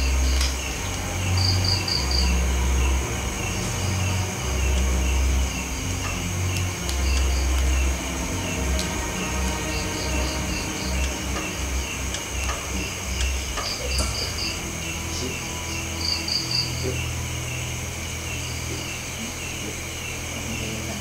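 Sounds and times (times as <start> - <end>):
crickets chirping: 0.0 - 21.0
high-pitched insect drone: 0.0 - 21.0
higher insect trill: 0.0 - 21.0
low pulsing rumble: 0.0 - 21.0
steady low hum: 0.0 - 21.0.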